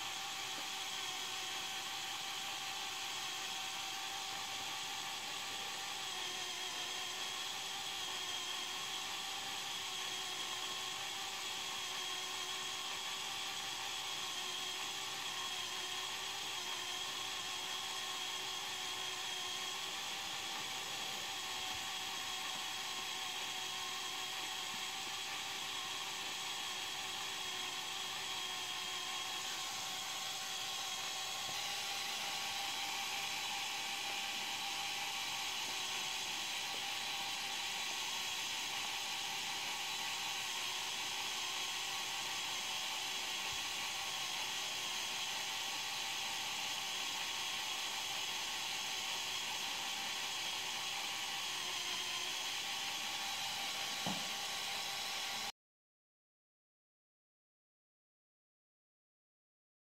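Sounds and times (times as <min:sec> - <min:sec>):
toy electric motor whine: 0:00.0 - 0:55.5.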